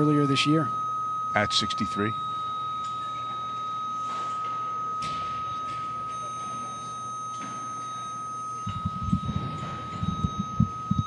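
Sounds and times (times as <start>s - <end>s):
steady high buzzer tone: 0.0s - 11.0s.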